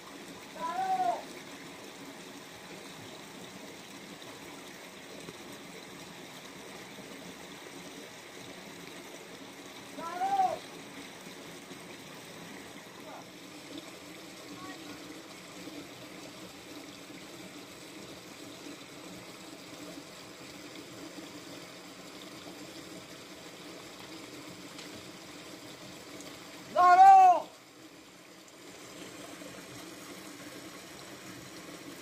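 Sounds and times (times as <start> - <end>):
stream of water running: 0.0 - 32.0.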